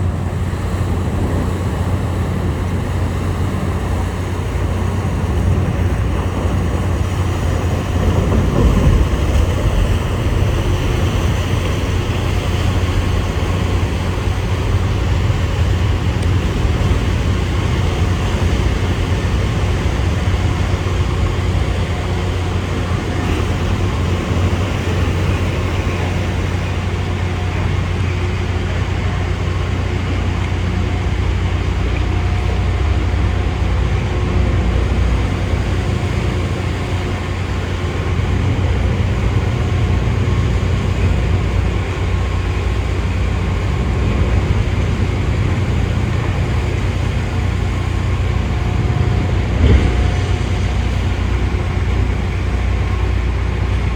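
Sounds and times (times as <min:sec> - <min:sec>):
ferry engines droning: 0:00.0 - 0:53.9
water rushing: 0:00.0 - 0:53.9.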